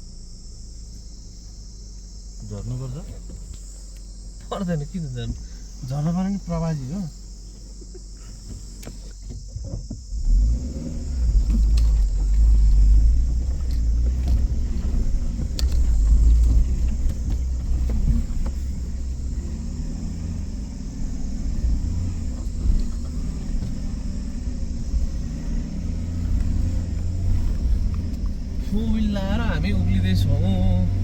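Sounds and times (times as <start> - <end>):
engine low rumble: 0.0 - 31.0.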